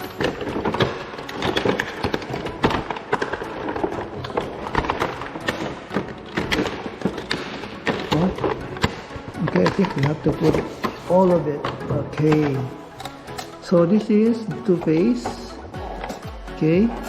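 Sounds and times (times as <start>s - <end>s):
packaging taps and rustles: 0.0s - 16.3s.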